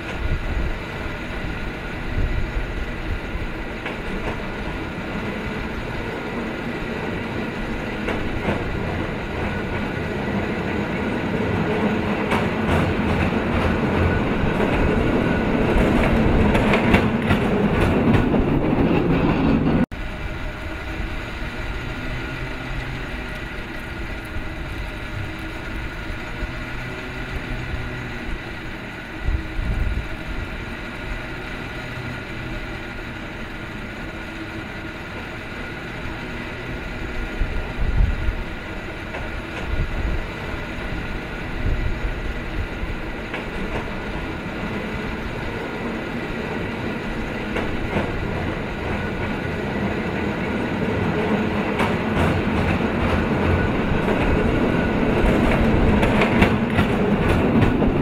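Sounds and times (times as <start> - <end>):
haul cable whine: 0.0 - 58.0
wheels clattering on rails: 0.0 - 58.0.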